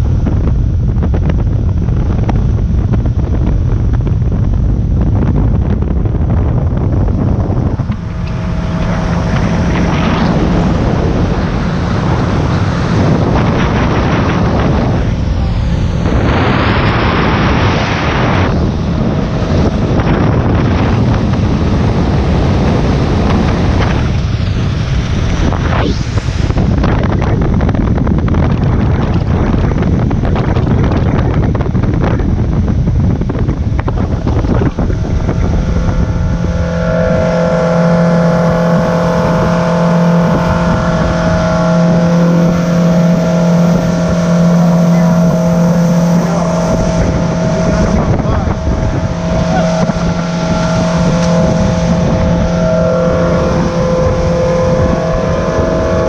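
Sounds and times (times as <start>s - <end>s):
outboard motor hum: 0.0s - 56.0s
wind buffeting microphone: 0.0s - 56.0s.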